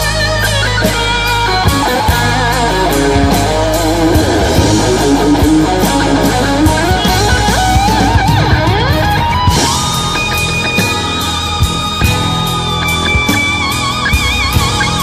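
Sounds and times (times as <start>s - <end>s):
bass: 0.0s - 15.0s
electric guitar lead: 0.0s - 15.0s
steady drum beat: 0.0s - 15.0s.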